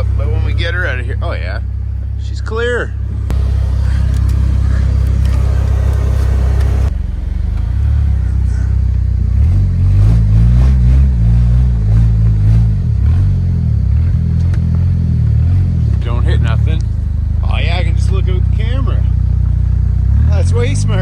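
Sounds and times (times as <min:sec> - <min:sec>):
truck engine driving through snow: 0:00.0 - 0:21.0.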